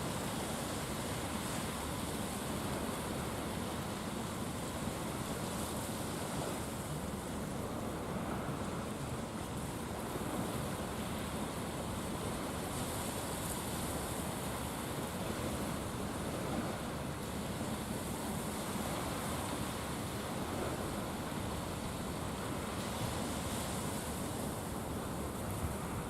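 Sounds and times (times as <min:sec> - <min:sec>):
waves: 0:00.0 - 0:26.0
wind: 0:00.0 - 0:26.0.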